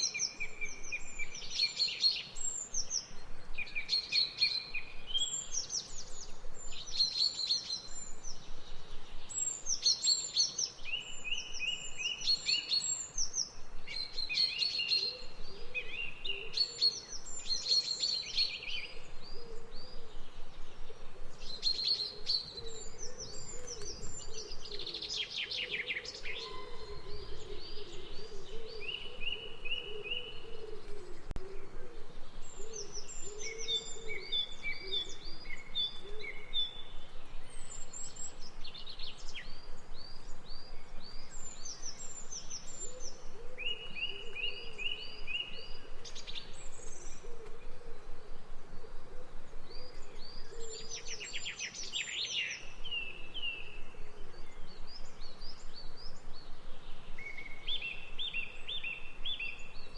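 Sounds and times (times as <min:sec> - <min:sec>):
outdoor ambience hiss: 0:00.0 - 0:59.9
songbirds chirping: 0:00.0 - 0:59.9.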